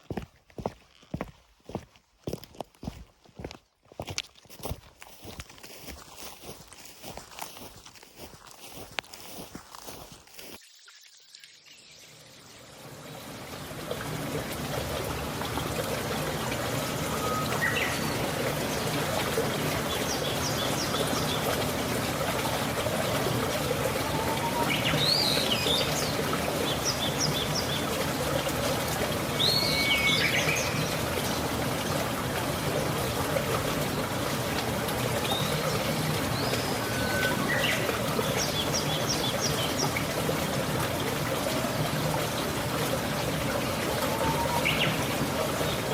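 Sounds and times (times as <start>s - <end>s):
water flowing: 0.0s - 45.9s.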